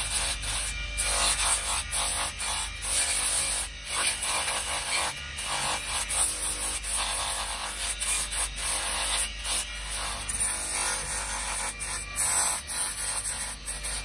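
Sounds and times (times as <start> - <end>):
electric motor hum: 0.0 - 14.0
wood rasping on sanding disc: 0.0 - 14.0.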